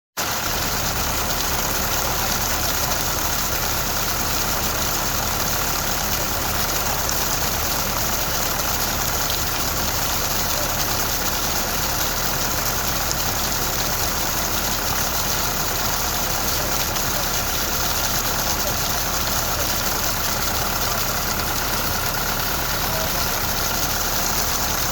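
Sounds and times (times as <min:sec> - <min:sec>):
steady rain falling: 0:00.3 - 0:24.9.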